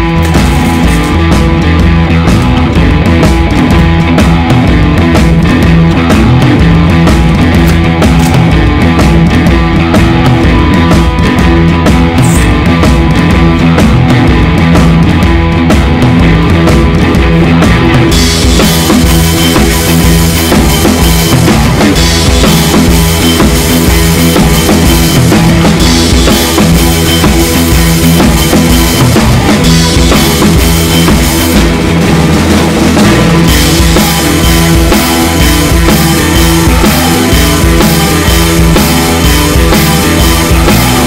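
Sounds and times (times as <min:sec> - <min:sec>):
drum kit beat: 0:00.0 - 0:41.0
rock music: 0:00.0 - 0:41.0.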